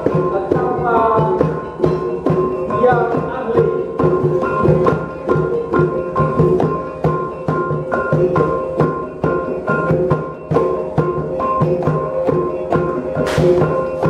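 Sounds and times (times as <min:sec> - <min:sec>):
struck percussion beat: 0:00.0 - 0:14.0.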